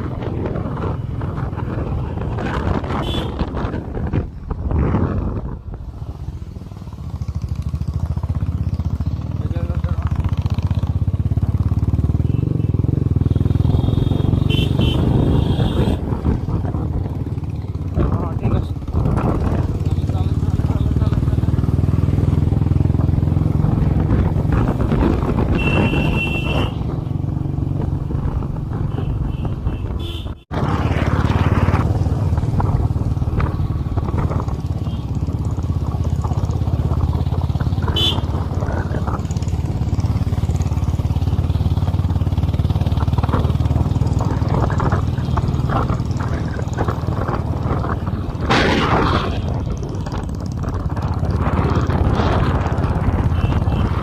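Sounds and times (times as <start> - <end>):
motorcycle engine humming: 0.0 - 54.0.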